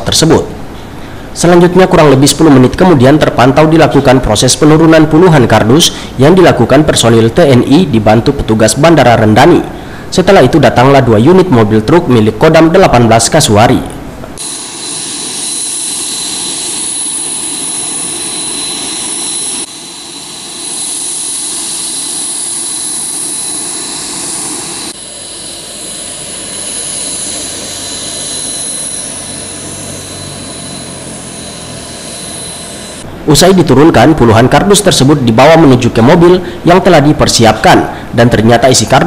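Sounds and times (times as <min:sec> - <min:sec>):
jet turbine whine: 0:00.0 - 0:39.0.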